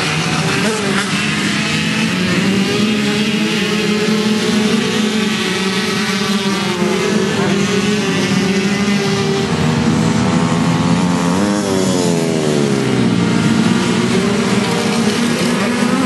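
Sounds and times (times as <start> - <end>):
motorcycles racing at high revs: 0.0 - 16.0.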